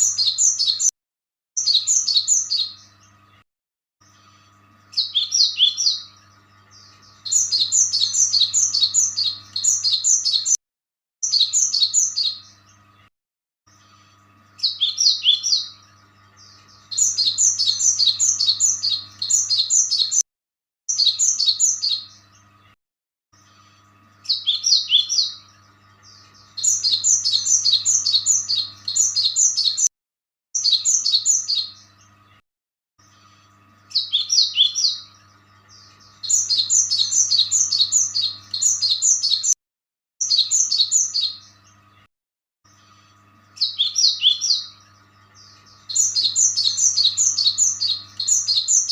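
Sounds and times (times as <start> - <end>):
small bird chirping: 0.0 - 0.9, 1.6 - 3.4, 4.0 - 10.6, 11.2 - 13.1, 13.7 - 20.2, 20.9 - 22.8, 23.4 - 29.9, 30.6 - 32.4, 33.0 - 39.6, 40.2 - 42.1, 42.7 - 48.9.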